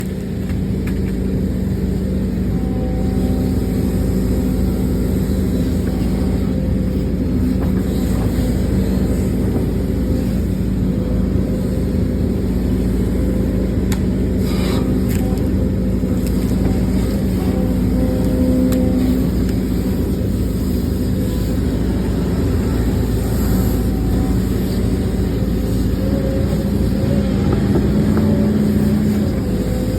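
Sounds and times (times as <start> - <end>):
heavy machinery diesel engine drone: 0.0 - 29.9.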